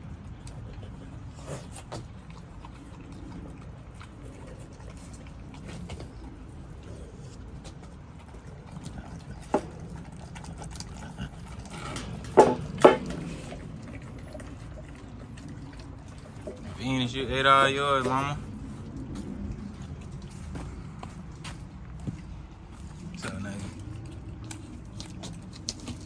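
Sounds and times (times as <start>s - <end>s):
dogs chewing and licking: 0.0s - 26.0s.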